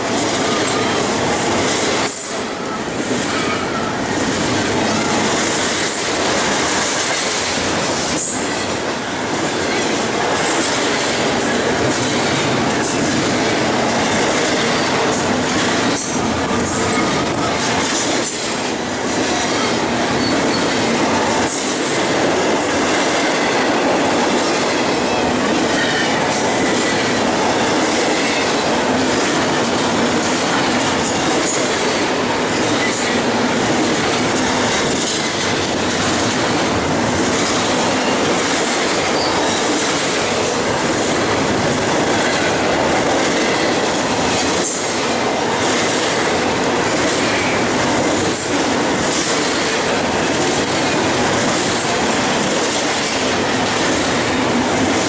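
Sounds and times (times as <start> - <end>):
train wheels rushing on rail: 0.0 - 55.0.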